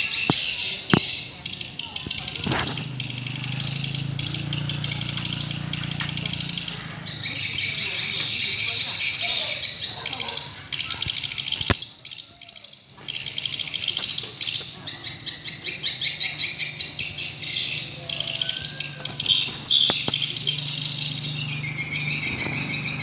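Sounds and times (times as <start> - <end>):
swiftlets twittering: 0.0 - 23.0.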